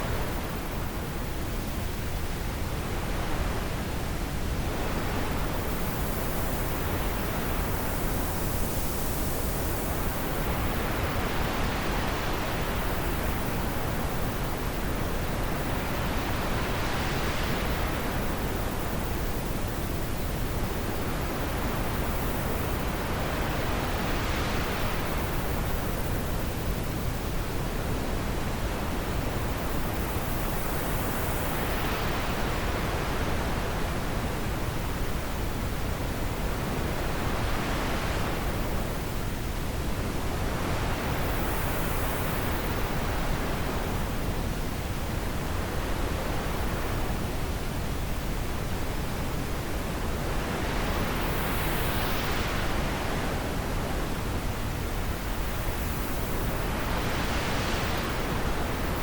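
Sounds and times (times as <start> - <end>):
wind blowing in gusts: 0.0 - 59.0.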